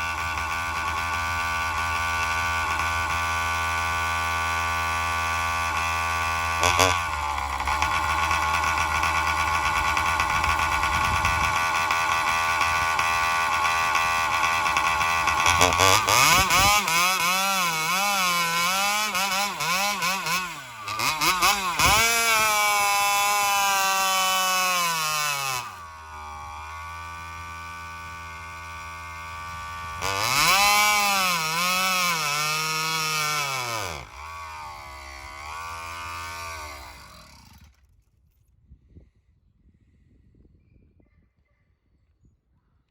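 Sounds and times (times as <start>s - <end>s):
chainsaw revving unevenly: 0.0s - 37.8s.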